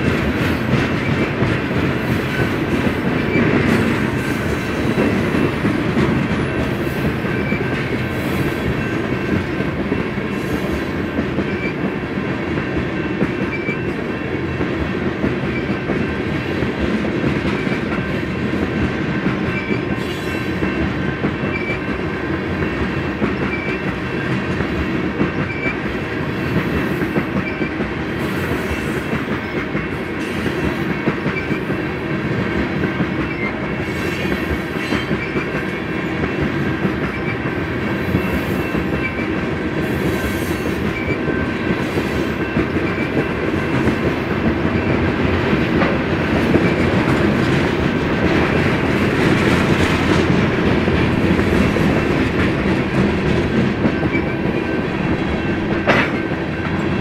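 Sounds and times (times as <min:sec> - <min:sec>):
freight train cars rumbling past: 0:00.0 - 0:57.0.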